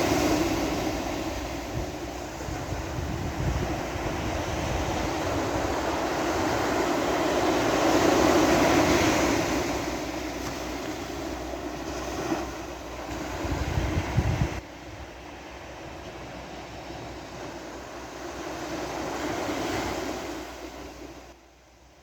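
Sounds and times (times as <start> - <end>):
wind buffeting microphone: 0.0 - 20.6
sea waves on a beach: 0.0 - 22.0.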